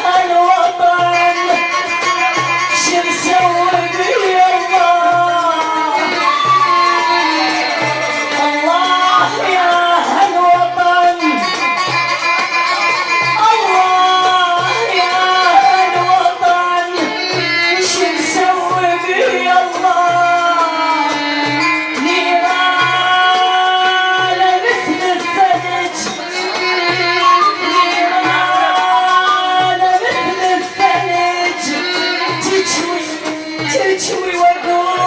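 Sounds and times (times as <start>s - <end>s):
woman singing: 0.0s - 11.8s, 13.2s - 35.0s
hand drum beat: 0.0s - 35.0s.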